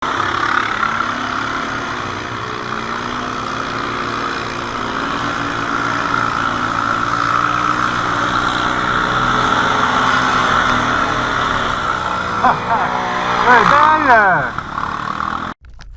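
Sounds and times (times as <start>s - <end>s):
atv engine running: 0.0s - 15.6s.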